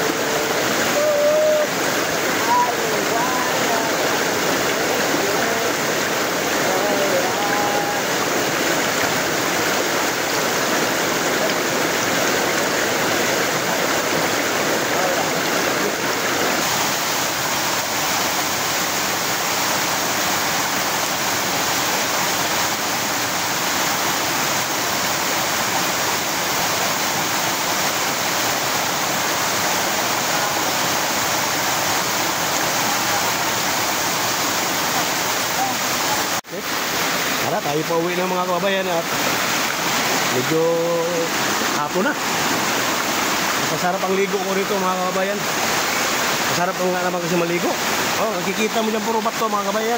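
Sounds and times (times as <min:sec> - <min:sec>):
waterfall and stream rushing: 0:00.0 - 0:49.9.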